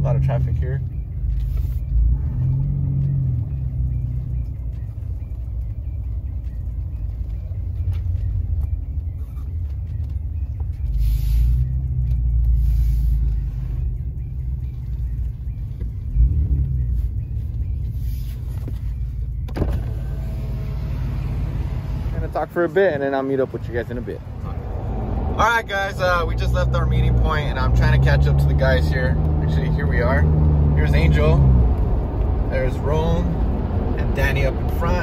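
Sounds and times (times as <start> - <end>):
road noise inside cab: 0.0 - 35.0
vehicle engine rumble: 0.0 - 35.0.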